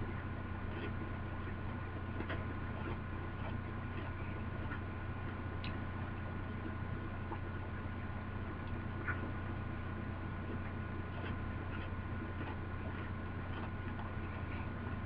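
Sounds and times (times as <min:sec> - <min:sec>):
low electrical hum: 0:00.0 - 0:15.0
person chewing crunchy cookie: 0:00.1 - 0:15.0.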